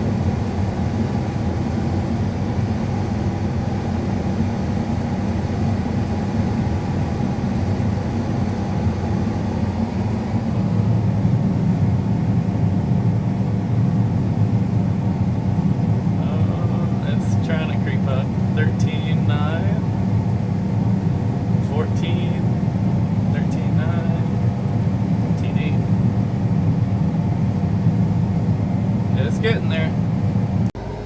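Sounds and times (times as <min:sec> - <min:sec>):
combine harvester running: 0:00.0 - 0:31.0.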